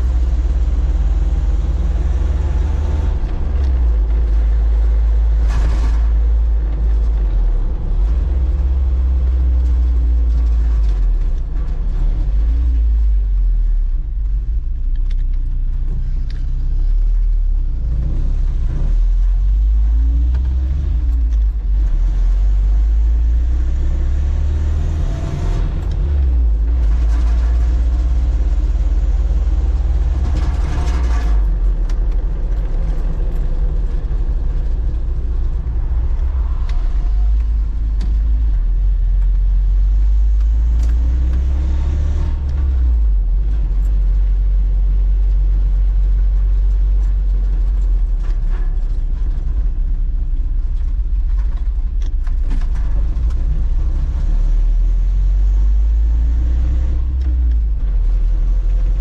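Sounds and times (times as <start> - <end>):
car engine rumbling inside cab: 0.0 - 59.0.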